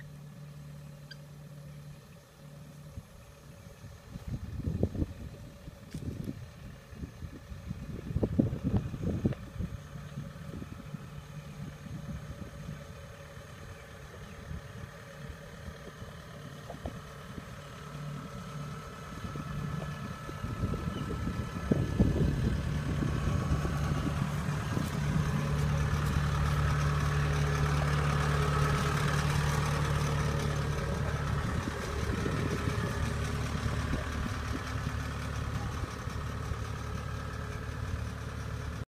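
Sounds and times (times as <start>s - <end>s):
combine harvester engine running: 0.0s - 38.8s.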